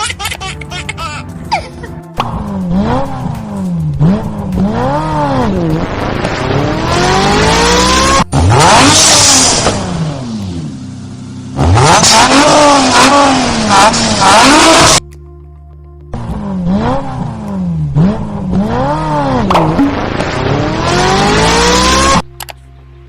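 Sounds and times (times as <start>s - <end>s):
car engine revving: 2.2s - 15.0s, 16.1s - 22.3s.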